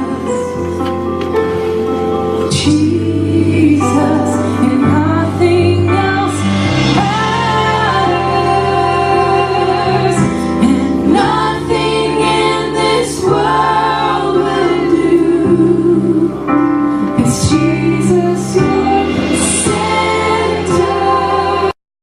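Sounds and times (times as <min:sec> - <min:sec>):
sustained instrumental chords: 0:00.0 - 0:21.8
voices singing together: 0:02.5 - 0:16.6, 0:17.2 - 0:21.8.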